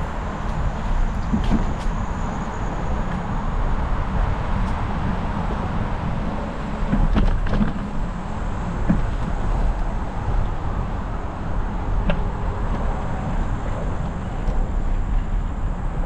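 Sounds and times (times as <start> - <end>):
wind and tyre noise: 0.0 - 16.0.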